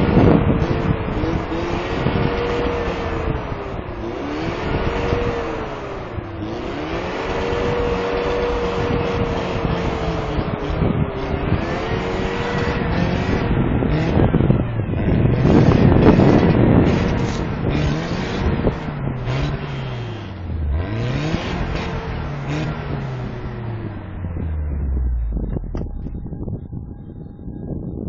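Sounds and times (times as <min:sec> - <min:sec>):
wheels churning snow: 0:00.0 - 0:26.0
truck engine revving: 0:00.0 - 0:27.0
wind on microphone: 0:00.0 - 0:28.0.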